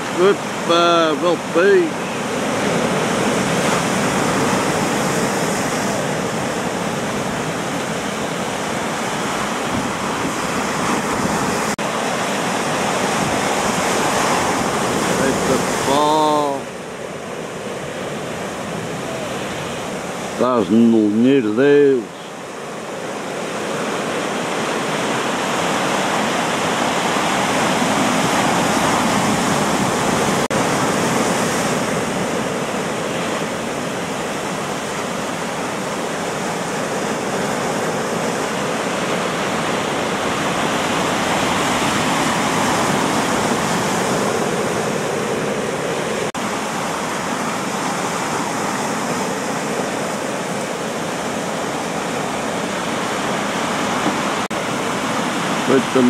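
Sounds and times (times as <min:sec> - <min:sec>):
surf breaking on rocky shore: 0:00.0 - 0:56.0.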